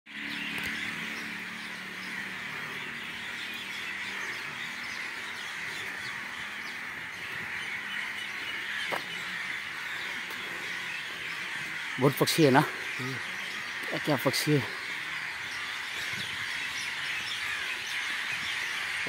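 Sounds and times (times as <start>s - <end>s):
birds chirping chorus: 0.1s - 19.0s.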